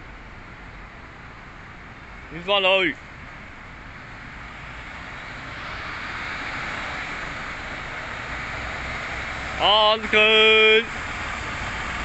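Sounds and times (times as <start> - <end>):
truck engine and tyre noise: 0.0 - 12.0.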